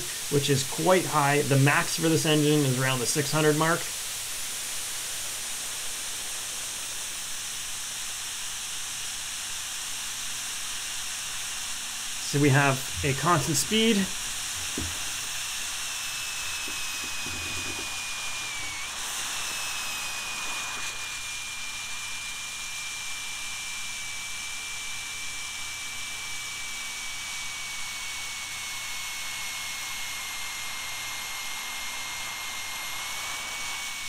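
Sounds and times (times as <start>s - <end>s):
model jet turbine engine whine: 0.0s - 34.0s.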